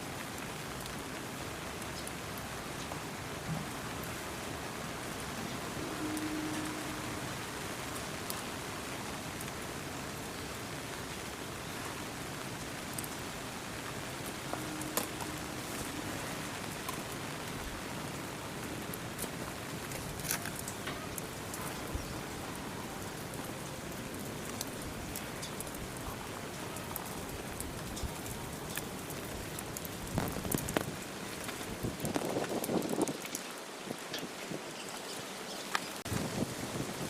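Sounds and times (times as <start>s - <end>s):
steady rain hiss: 0.0s - 37.0s
raindrop ticks: 0.1s - 36.6s.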